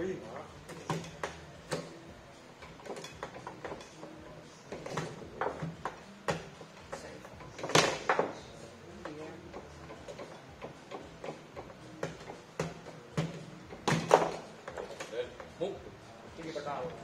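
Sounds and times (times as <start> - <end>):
foosball rods and ball clacking: 0.0 - 15.7.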